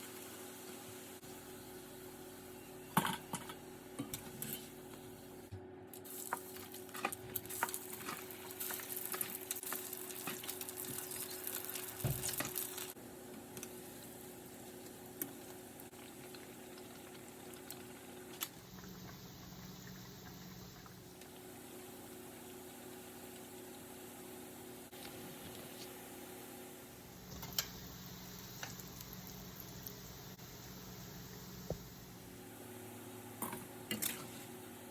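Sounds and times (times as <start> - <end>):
food deep-frying in hot oil: 0.0 - 34.9.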